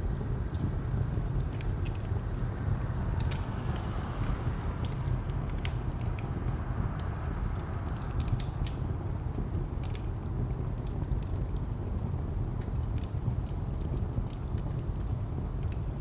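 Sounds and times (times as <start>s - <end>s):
distant traffic rumble: 0.0s - 16.0s
wood fire crackling and popping: 0.0s - 16.0s.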